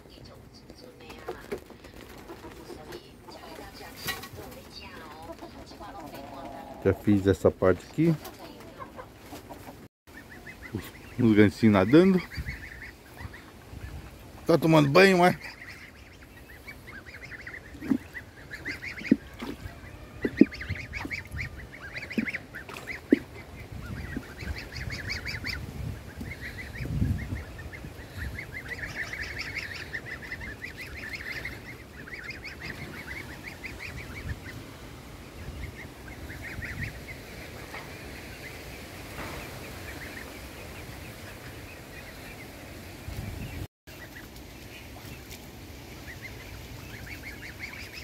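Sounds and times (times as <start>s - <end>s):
goslings peeping: 0.1s - 48.0s.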